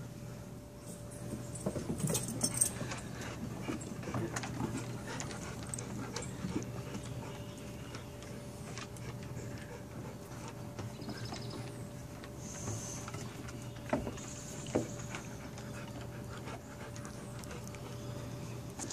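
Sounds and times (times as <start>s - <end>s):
faint steady hum: 0.0s - 18.9s
puppy paws tapping on wood: 1.2s - 18.0s
footsteps on wooden deck: 1.2s - 18.9s.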